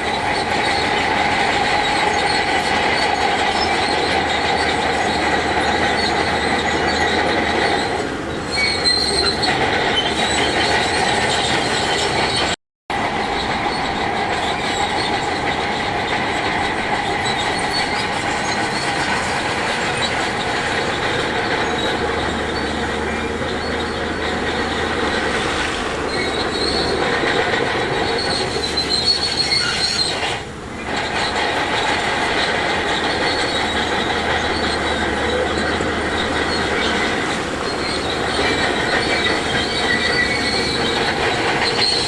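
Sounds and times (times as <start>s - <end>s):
high metallic squealing: 0.0s - 12.6s, 13.2s - 42.0s
heavy machinery rumble: 0.0s - 42.0s.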